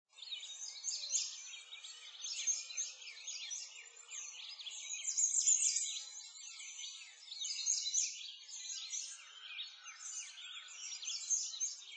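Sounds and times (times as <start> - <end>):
birds chirping and twittering: 0.1 - 11.9.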